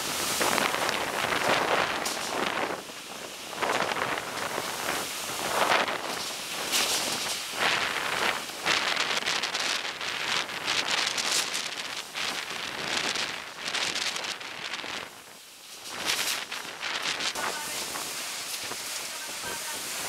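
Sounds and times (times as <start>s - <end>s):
driving rain: 0.0s - 20.0s
gusting wind: 0.0s - 20.0s.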